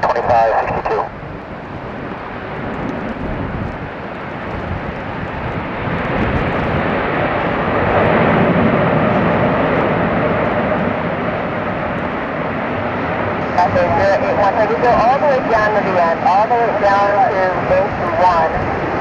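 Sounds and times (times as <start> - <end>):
jet airliner engines landing: 0.0 - 19.0.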